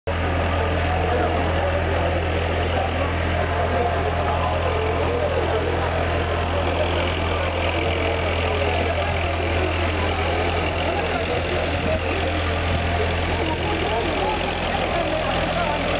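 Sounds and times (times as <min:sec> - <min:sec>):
diesel train engine idling: 0:00.1 - 0:15.9
murmur of voices: 0:00.1 - 0:15.9.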